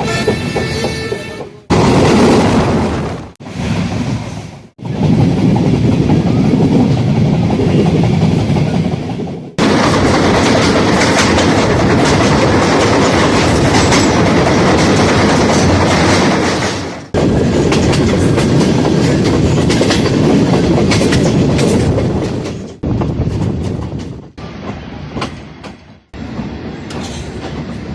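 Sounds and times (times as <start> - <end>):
train running on track: 0.0 - 27.9.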